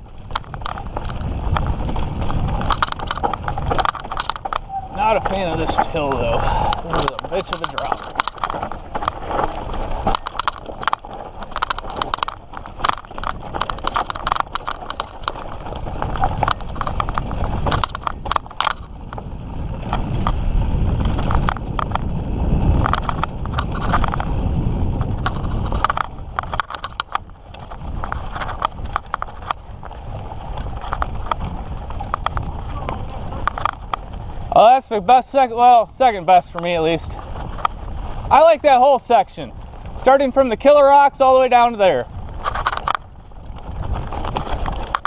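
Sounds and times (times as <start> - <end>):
bike rattling over rocks: 0.0 - 45.0.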